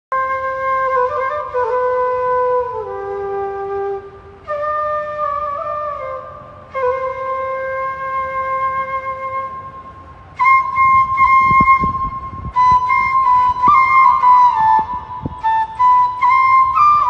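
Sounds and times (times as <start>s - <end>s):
bamboo flute slow melody: 0.1s - 17.0s.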